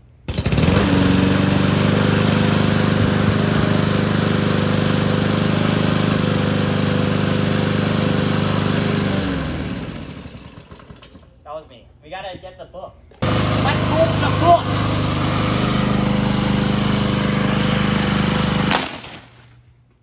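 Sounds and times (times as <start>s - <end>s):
lawn mower engine running: 0.0s - 11.4s, 13.2s - 19.5s.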